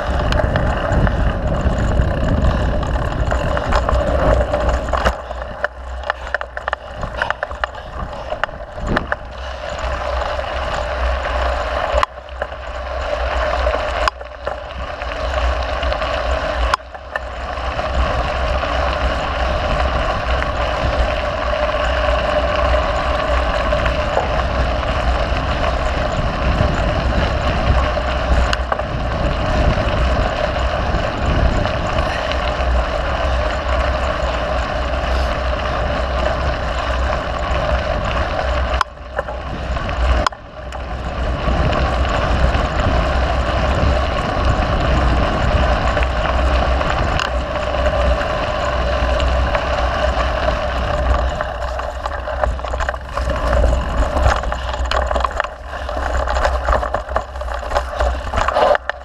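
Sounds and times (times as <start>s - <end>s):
bike rolling on dirt trail: 0.0s - 59.0s
wind buffeting microphone: 0.0s - 59.0s.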